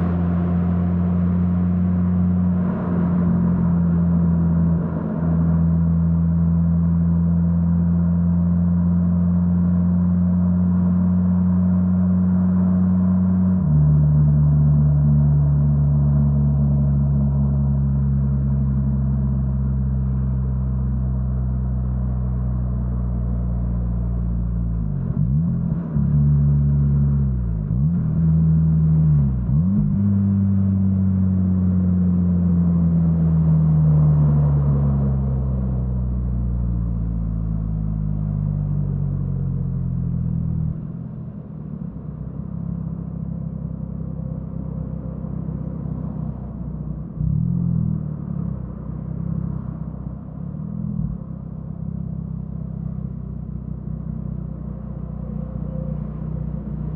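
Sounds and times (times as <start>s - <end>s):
rotary car engine driving: 0.0s - 56.9s.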